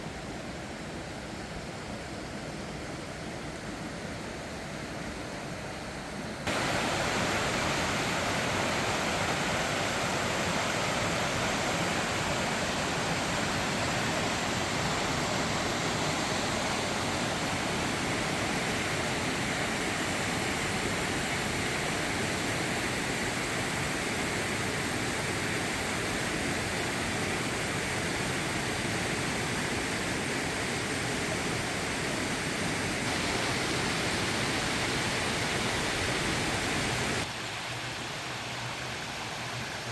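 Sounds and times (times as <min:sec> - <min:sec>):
stream rushing over rocks: 0:06.4 - 0:39.9.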